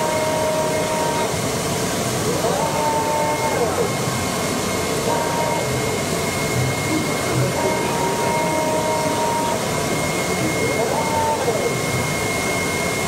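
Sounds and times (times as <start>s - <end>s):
steady high tone: 0.0s - 1.4s, 2.3s - 13.0s
drive motor whine: 0.0s - 13.0s.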